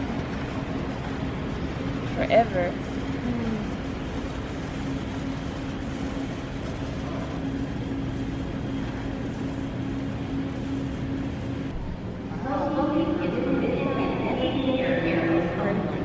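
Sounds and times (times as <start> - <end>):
low even hum: 0.0 - 16.0.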